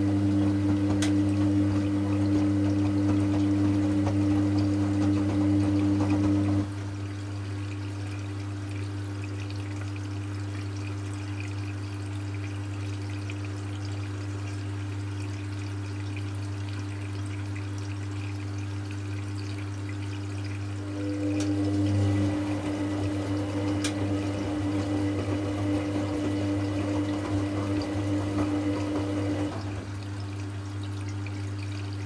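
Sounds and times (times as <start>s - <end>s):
low electrical hum: 0.0s - 27.2s, 29.5s - 32.0s
water pouring and trickling: 0.0s - 32.0s.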